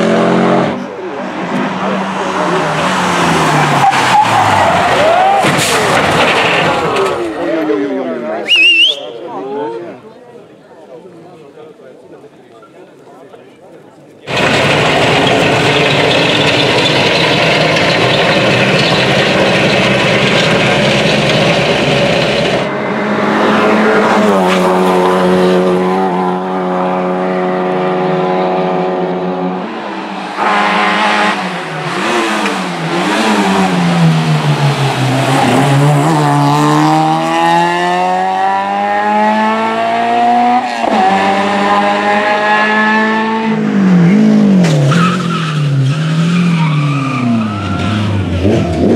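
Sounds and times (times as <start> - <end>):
rally car engine at full throttle: 0.0 - 8.2, 14.3 - 48.9.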